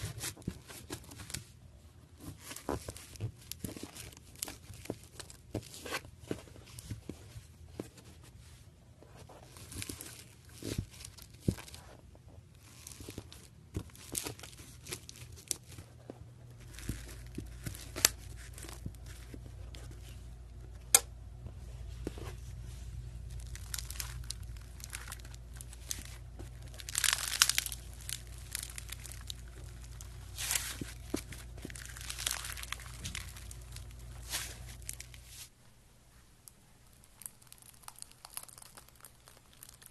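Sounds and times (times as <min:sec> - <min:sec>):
slime crackling and squishing: 0:00.0 - 0:08.1, 0:09.2 - 0:20.7, 0:21.8 - 0:35.5, 0:36.8 - 0:39.9
steady low hum: 0:00.0 - 0:38.0.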